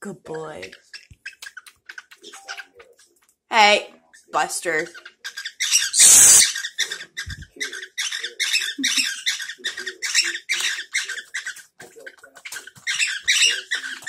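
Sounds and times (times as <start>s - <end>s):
cockatiel chirping: 0.6s - 3.0s, 4.9s - 14.0s.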